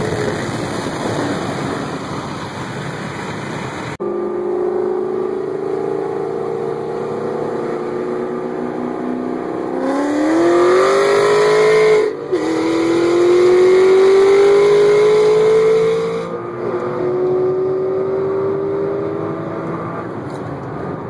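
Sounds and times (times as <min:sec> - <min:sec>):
car engine accelerating: 0:03.9 - 0:21.0.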